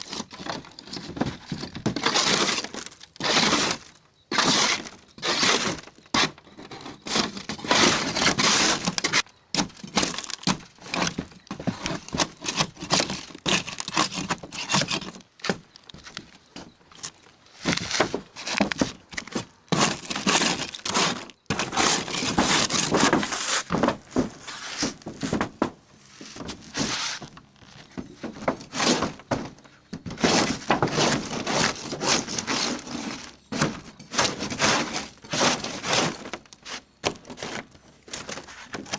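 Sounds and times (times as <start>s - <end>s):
hand scraper scraping roof coating: 0.0s - 15.6s, 17.6s - 38.9s.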